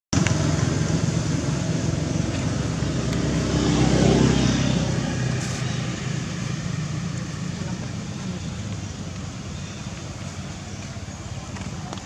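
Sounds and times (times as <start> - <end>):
passing vehicle engine: 0.2 - 10.7.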